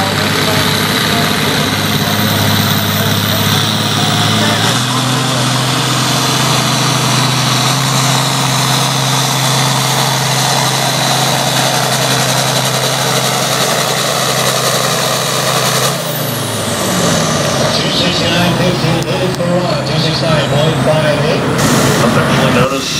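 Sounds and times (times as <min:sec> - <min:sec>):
tractor engine running hard: 0:00.0 - 0:22.9.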